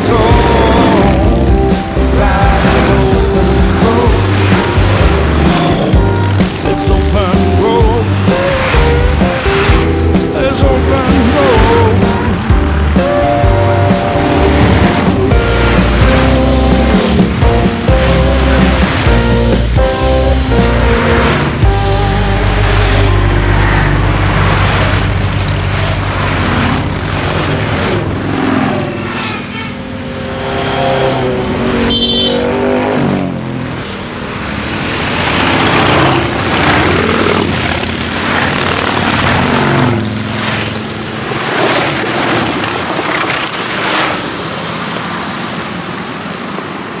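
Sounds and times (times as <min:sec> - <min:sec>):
motorcycles riding past: 0:00.0 - 0:46.9.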